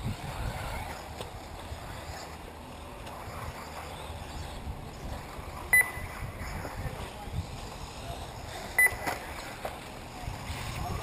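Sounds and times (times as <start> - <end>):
wind buffeting microphone: 0.0 - 2.2, 2.8 - 8.6, 10.0 - 11.0
faint outdoor background noise: 0.0 - 11.0.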